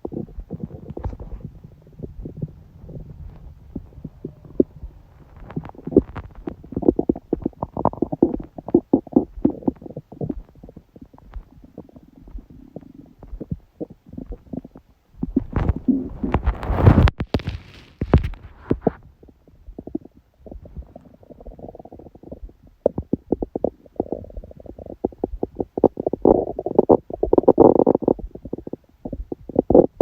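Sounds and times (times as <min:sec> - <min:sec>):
stomach gurgling and rumbling: 0:00.0 - 0:30.0.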